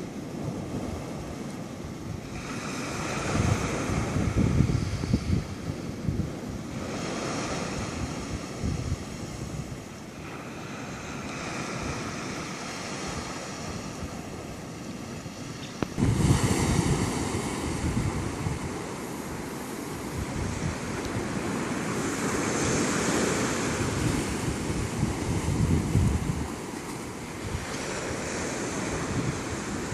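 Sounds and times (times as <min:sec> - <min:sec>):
surf breaking on beach and rocks: 0:00.0 - 0:29.9
wind buffeting microphone: 0:00.0 - 0:29.9.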